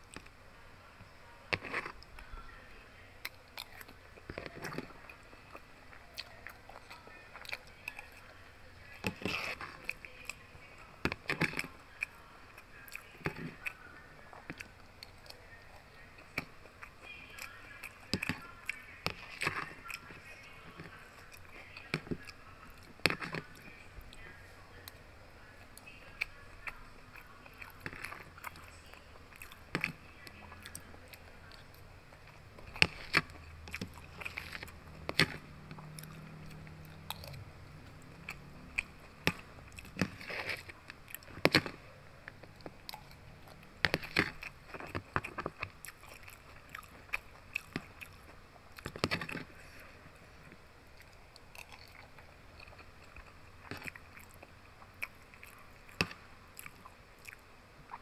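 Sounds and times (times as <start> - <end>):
person chewing food: 1.0 - 2.5, 3.2 - 58.0.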